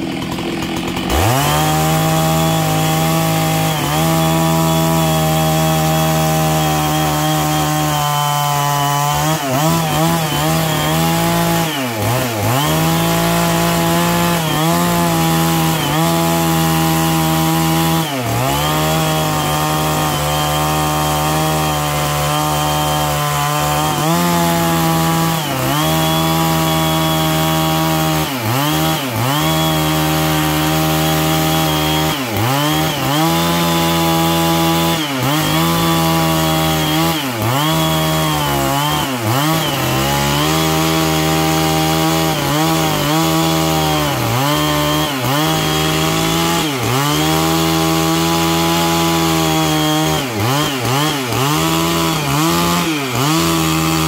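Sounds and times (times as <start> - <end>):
chainsaw ripping a log: 0.0 - 54.0.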